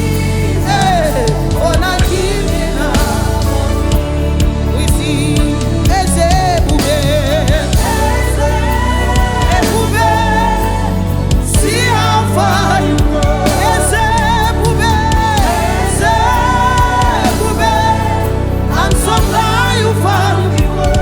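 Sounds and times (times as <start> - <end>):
band with bass and drums: 0.0 - 21.0
person singing with vibrato: 0.0 - 21.0.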